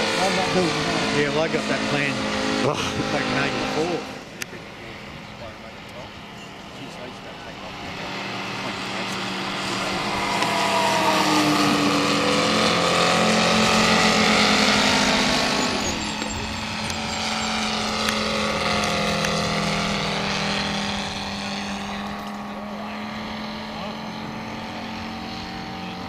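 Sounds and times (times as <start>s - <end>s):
model plane engine flying by: 0.0s - 26.0s.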